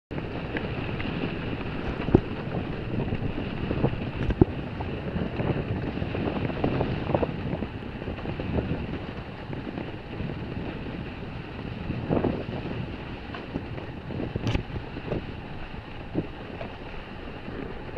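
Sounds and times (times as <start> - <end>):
wind rushing over microphone: 0.1 - 17.9.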